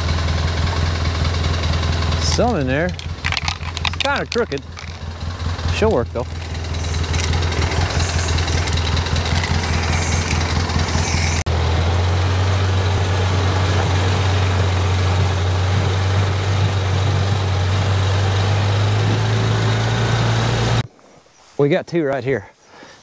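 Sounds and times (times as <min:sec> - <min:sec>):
utility vehicle engine running: 0:00.1 - 0:20.8.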